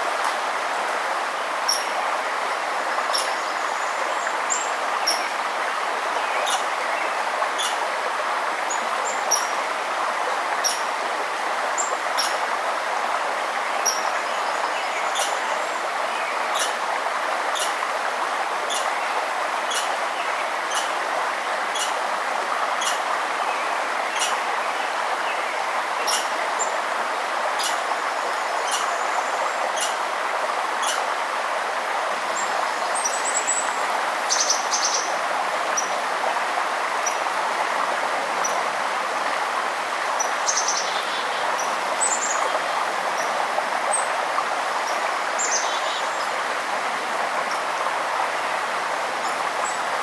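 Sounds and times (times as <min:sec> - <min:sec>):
stream flowing: 0:00.0 - 0:50.0.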